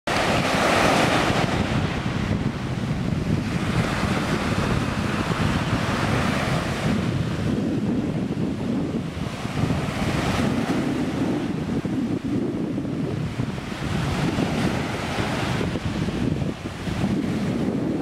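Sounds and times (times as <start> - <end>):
waves washing over shingle shore: 0.1 - 18.0
wind buffeting microphone: 0.1 - 18.0.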